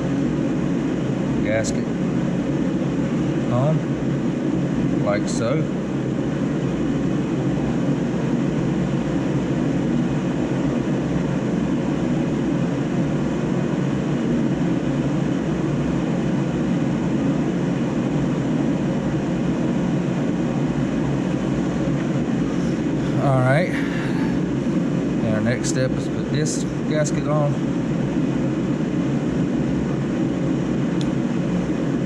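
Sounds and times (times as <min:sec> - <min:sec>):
steady rumbling background noise: 0:00.0 - 0:32.0.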